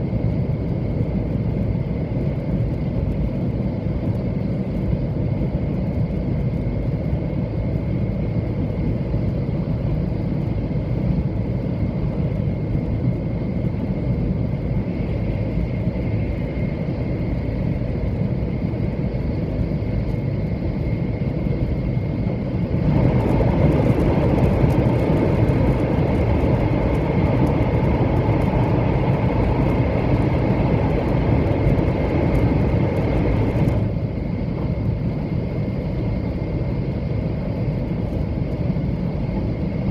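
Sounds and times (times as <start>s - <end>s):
faint high whine: 0.0s - 39.9s
train rumble inside cabin: 0.0s - 39.9s.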